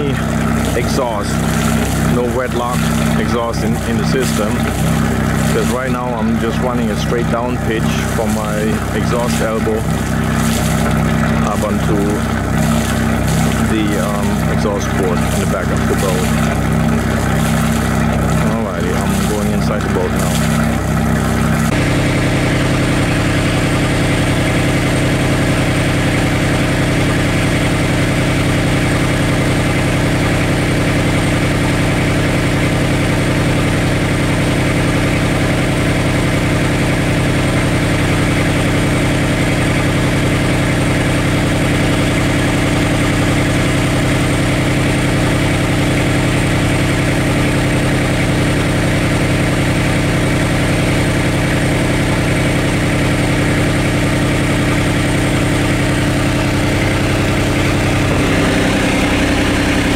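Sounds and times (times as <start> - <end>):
marine diesel engine idling: 0.0 - 59.9.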